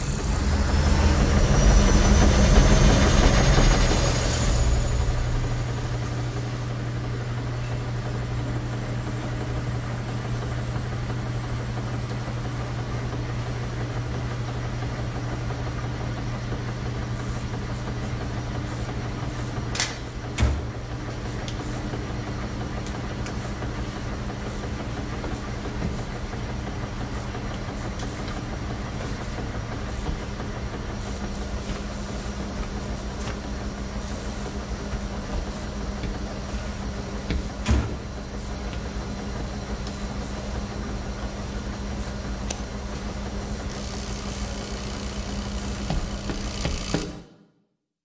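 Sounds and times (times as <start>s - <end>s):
washing machines humming: 0.0s - 47.4s.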